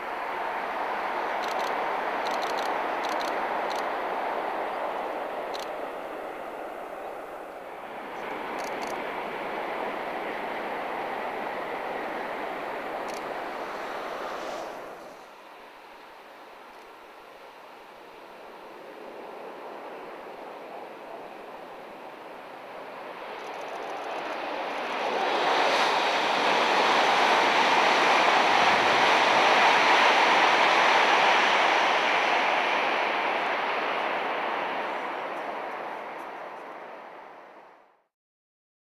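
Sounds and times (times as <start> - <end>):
high-speed train rushing past: 0.0 - 38.0.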